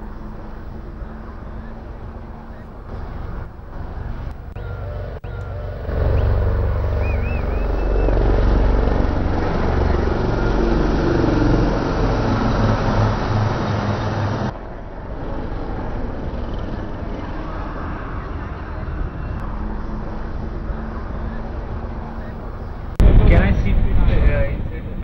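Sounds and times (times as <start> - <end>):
helicopter rotors and turbine engines: 0.0 - 25.0.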